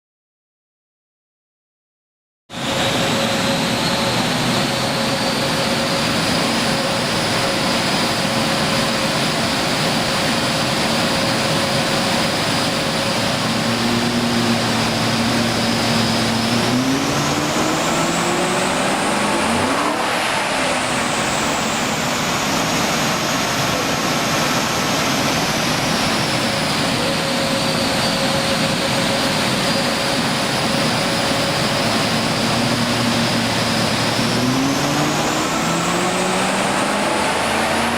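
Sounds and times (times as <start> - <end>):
car engine revving on dyno: 2.6 - 37.9.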